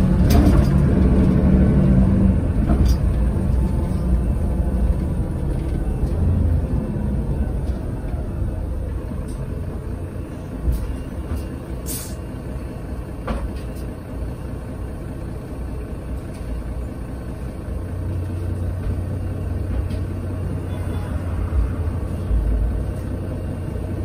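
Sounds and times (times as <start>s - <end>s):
bus diesel engine rumble: 0.0s - 24.0s.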